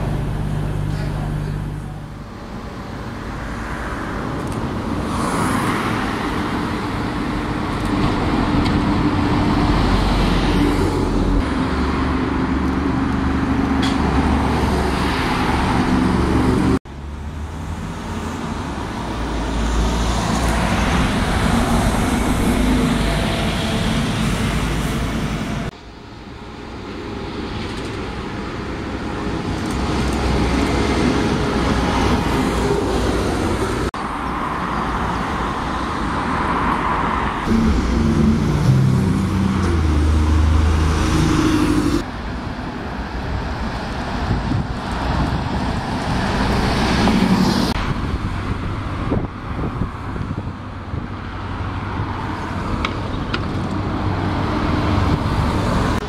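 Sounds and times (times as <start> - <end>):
buses driving past: 0.0 - 56.0
general traffic: 0.0 - 56.0.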